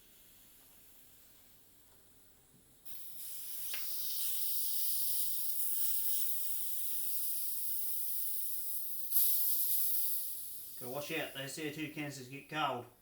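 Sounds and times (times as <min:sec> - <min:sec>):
compressed gas hissing: 0:00.0 - 0:12.8.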